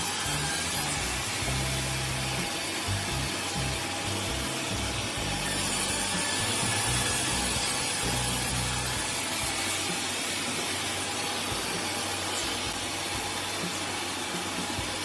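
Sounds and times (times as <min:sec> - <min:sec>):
heavy machinery running: 0:00.0 - 0:15.0.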